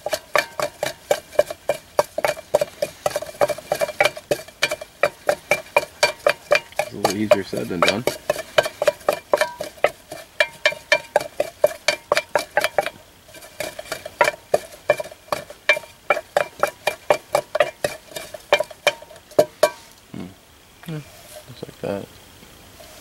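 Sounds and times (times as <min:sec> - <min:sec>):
wooden stick knocking in metal cup: 0:00.0 - 0:19.9.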